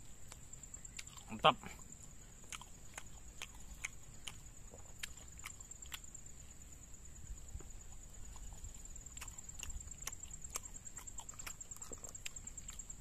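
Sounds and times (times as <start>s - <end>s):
wet chewing clicks and smacks: 0.2s - 6.4s, 7.6s - 13.0s.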